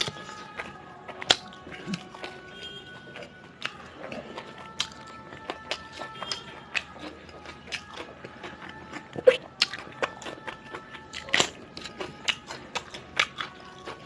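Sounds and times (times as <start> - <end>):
person chewing with mouth clicks: 0.0 - 14.0.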